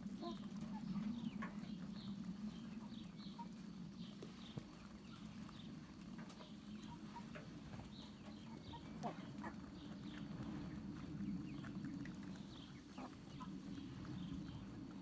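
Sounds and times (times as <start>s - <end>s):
hens chirping: 0.0s - 15.0s
hens pecking taps: 0.0s - 15.0s
steady low hum: 0.0s - 15.0s.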